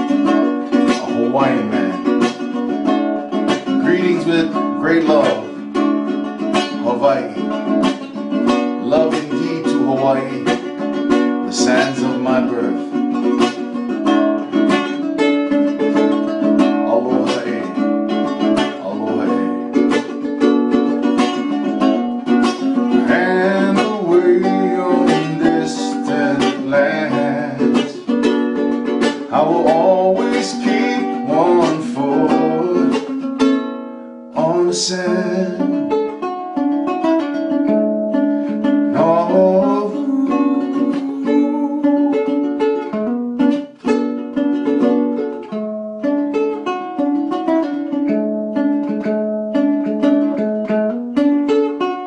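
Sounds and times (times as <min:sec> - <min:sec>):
ukulele playing: 0:00.0 - 0:52.0.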